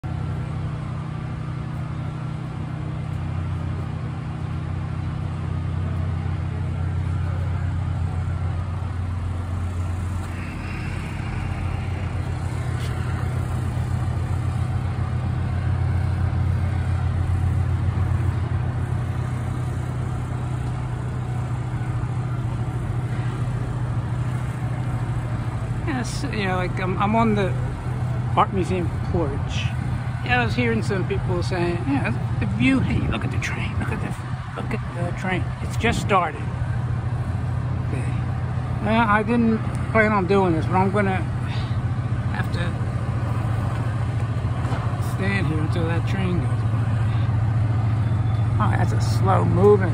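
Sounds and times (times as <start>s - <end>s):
low vehicle engine hum: 0.0s - 49.9s.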